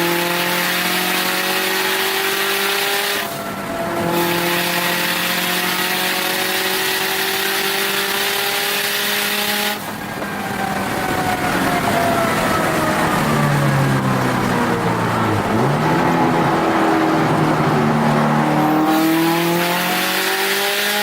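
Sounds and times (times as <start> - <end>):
car engine at full throttle: 0.0 - 21.0.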